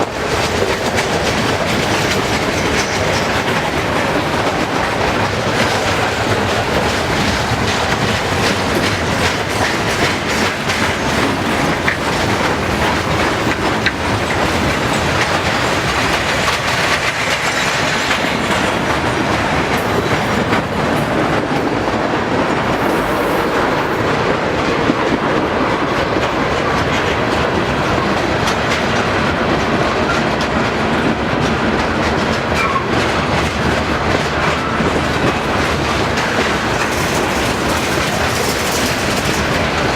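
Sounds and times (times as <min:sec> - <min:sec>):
freight train rolling by: 0:00.0 - 0:39.9
steel wheels clicking over rail joints: 0:00.0 - 0:39.9.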